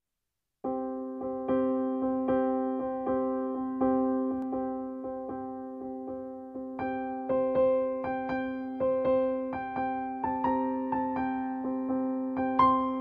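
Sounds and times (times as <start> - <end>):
slow piano music: 0.6 - 13.0.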